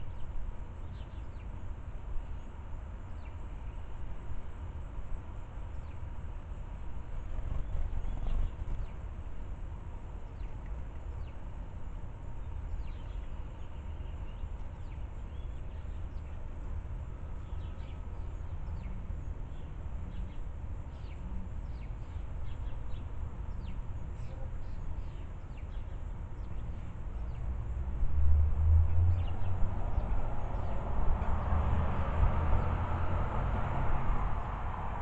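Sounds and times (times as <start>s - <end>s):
sparrows chirping: 0.0s - 28.0s, 28.8s - 31.4s.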